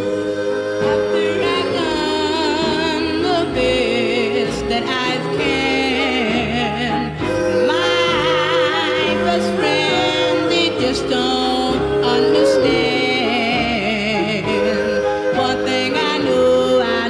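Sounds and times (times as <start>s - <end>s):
vocal group singing in harmony: 0.0s - 17.0s.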